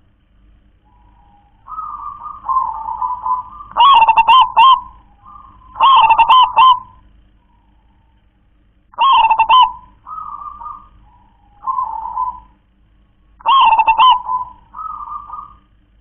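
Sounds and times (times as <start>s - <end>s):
dove cooing: 0.8s - 8.2s, 9.0s - 12.7s, 13.4s - 15.9s.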